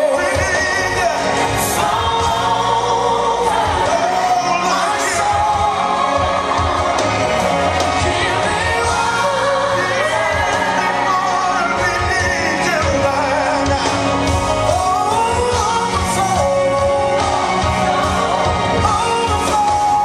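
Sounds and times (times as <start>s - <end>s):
band with steady bass beat: 0.0s - 20.0s
worship song singing: 0.0s - 20.0s.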